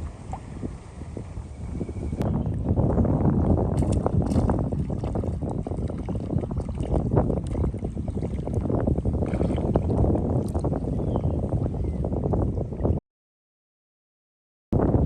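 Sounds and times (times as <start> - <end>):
wind buffeting microphone: 0.0 - 13.0, 14.8 - 15.0.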